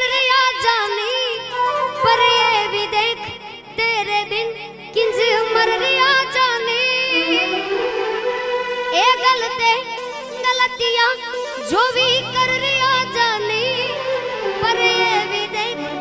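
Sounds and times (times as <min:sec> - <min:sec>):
woman singing: 0:00.0 - 0:07.6, 0:08.9 - 0:14.0, 0:14.6 - 0:16.0
instrumental accompaniment: 0:00.0 - 0:16.0.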